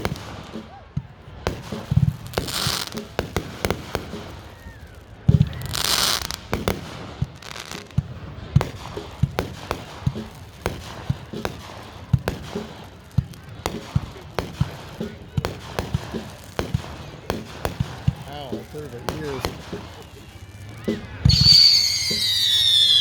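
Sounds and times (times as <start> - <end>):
fireworks bangs and pops: 0.0 - 23.0
hissing crackling firework burst: 1.4 - 23.0.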